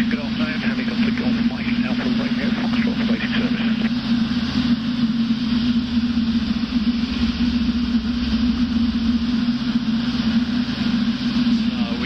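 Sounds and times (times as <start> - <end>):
helicopter engine and rotors drone: 0.0 - 12.0.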